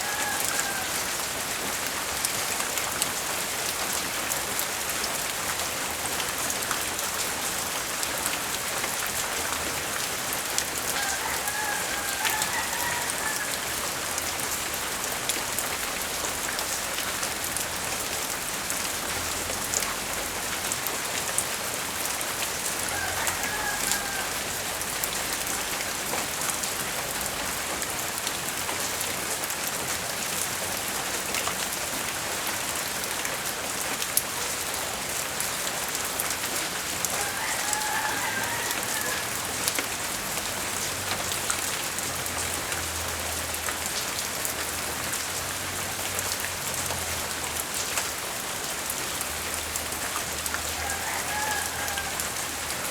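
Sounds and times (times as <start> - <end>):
steady light rain: 0.0 - 52.9.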